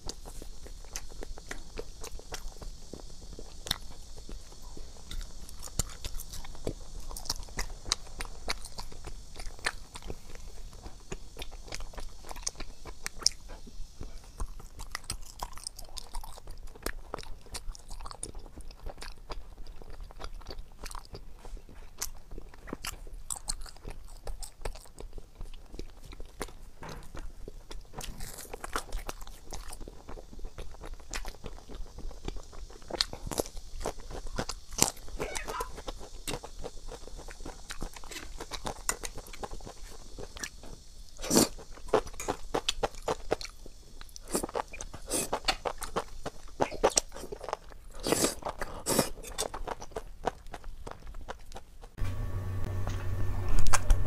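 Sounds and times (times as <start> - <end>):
chewing crunchy food: 0.0 - 52.0.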